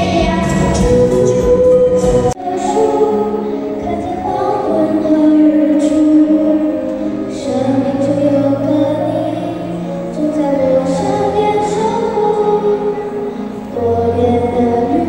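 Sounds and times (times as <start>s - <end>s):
girl singing into a microphone: 0.0s - 15.0s.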